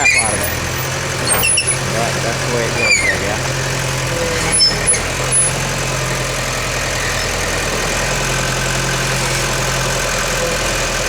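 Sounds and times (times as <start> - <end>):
dozer diesel engine running: 0.0 - 11.0.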